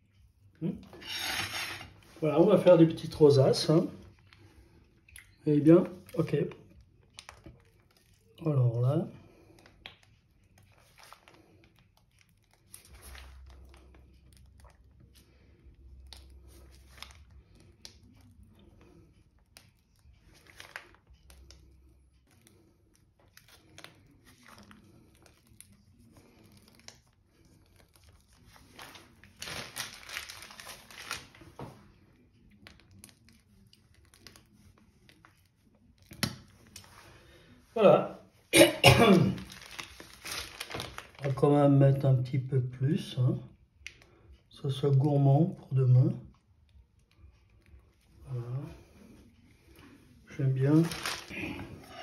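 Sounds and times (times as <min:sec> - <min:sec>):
piping bag crinkling and rustling: 0:00.8 - 0:42.3, 0:45.9 - 0:52.0.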